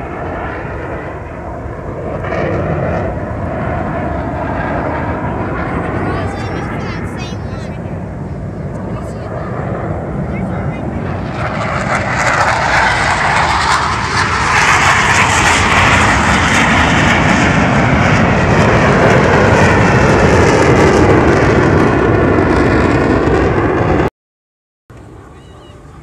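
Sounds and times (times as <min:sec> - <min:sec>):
jet roar passing over: 0:00.0 - 0:24.1.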